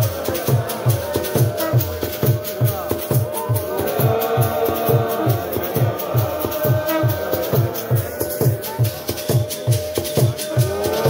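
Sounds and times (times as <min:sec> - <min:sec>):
drum beating steadily: 0:00.0 - 0:11.0.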